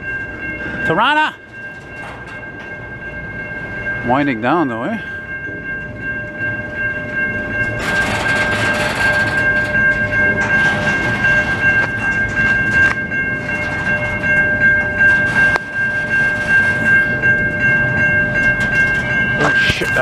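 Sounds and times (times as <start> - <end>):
crossing signal ringing: 0.0 - 20.0
freight train rumbling on rails: 0.0 - 20.0
sharp train clanks: 0.0 - 20.0.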